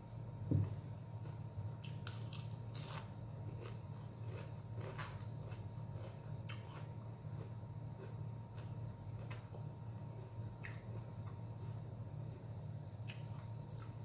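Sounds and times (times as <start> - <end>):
person chewing crisp food: 0.6 - 14.0.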